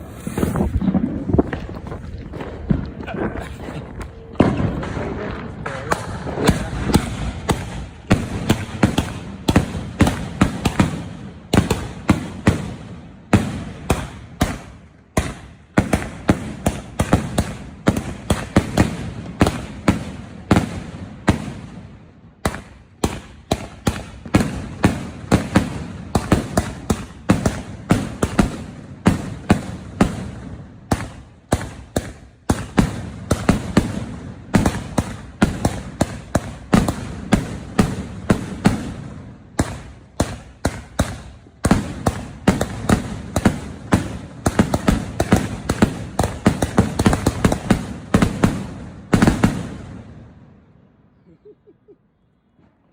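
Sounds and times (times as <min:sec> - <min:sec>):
firework crackle: 0:00.0 - 0:21.7, 0:22.5 - 0:49.7
fireworks launching and bursting: 0:00.0 - 0:50.4.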